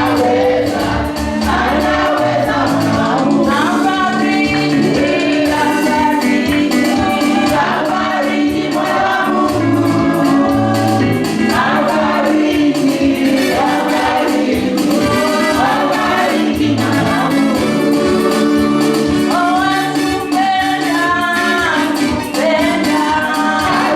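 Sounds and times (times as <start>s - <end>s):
amplified instruments with bass and beat: 0.0s - 23.9s
group of voices singing: 0.0s - 23.9s.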